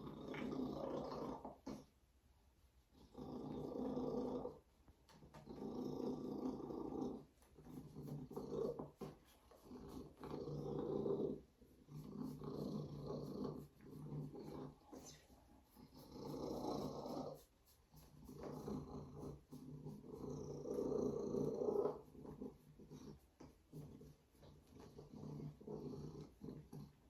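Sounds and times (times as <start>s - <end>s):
cat purring: 0.0s - 2.0s, 2.8s - 27.0s.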